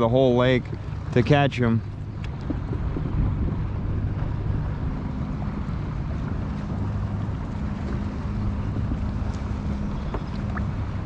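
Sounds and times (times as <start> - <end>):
water lapping at kayak: 0.0 - 11.0
wind buffeting microphone: 0.0 - 11.0.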